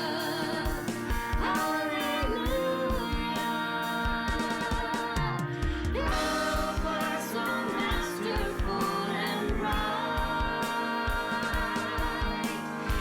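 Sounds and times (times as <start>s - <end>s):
band with steady drum beat: 0.0s - 13.0s
voices singing together: 0.0s - 13.0s.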